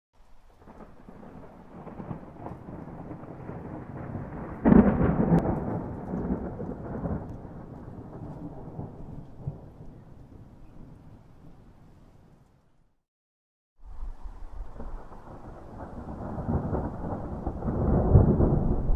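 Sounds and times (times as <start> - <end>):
steady rain: 0.2 - 12.2, 13.8 - 18.9
thunder rumbling and clapping: 0.6 - 11.6, 14.7 - 18.9.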